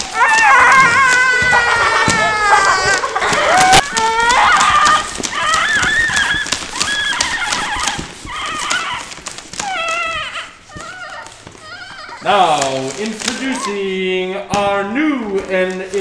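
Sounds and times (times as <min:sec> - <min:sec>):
crackling clicks: 0:00.0 - 0:13.8
children making animal noises: 0:00.0 - 0:13.9.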